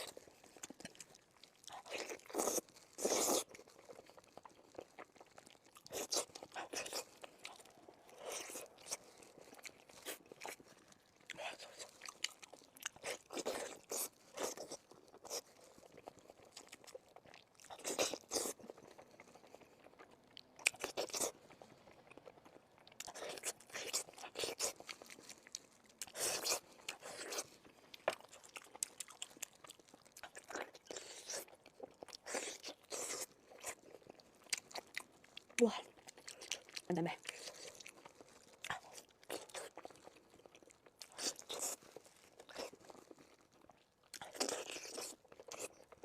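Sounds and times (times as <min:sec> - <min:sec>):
biting and chewing: 0:00.0 - 0:46.0
crunching of bones: 0:00.0 - 0:46.0.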